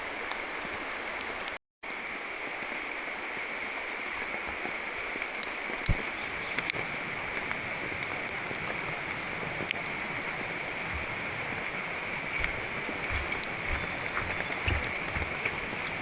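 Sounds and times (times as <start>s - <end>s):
forest river rushing: 0.0s - 16.0s
steady rain: 0.0s - 16.0s.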